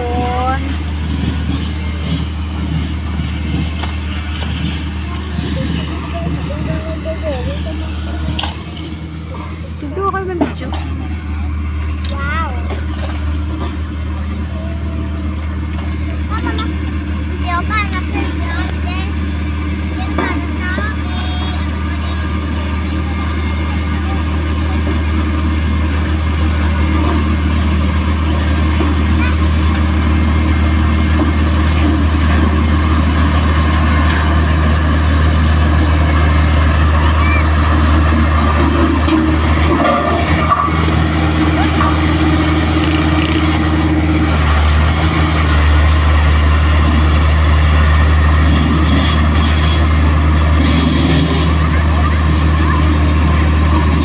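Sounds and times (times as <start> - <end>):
heavy equipment engine idling: 0.0 - 54.0.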